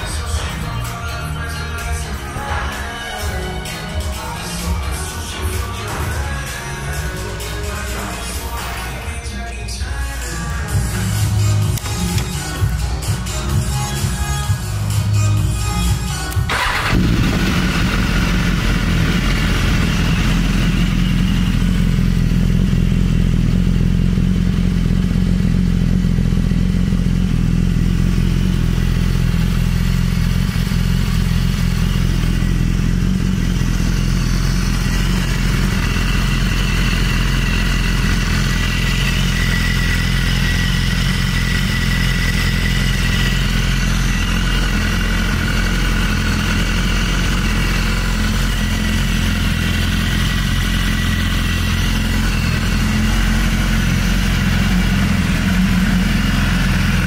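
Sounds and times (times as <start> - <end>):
motorcycle engine idling: 10.5 - 57.0.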